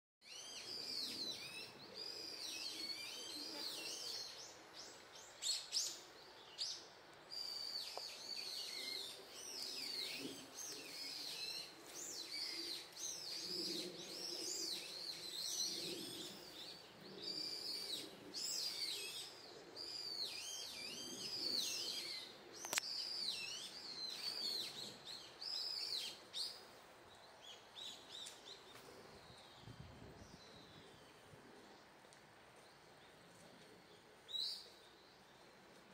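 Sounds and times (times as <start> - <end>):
small birds chirping: 0.2 - 35.9.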